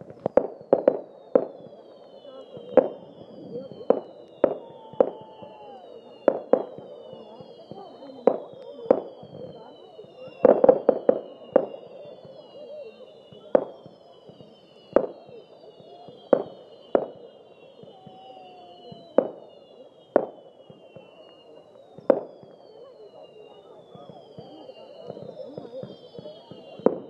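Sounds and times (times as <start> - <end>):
firework bangs: 0.0 - 27.0
firework whistles falling in pitch: 0.0 - 27.0.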